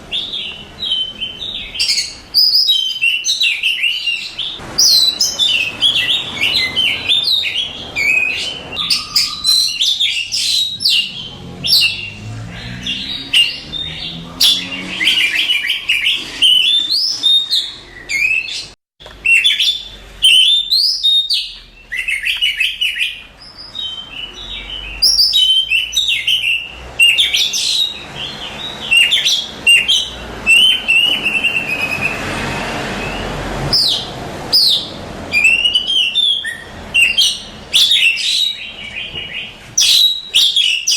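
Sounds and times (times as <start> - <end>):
bird singing whistled phrases: 0.1 - 40.9.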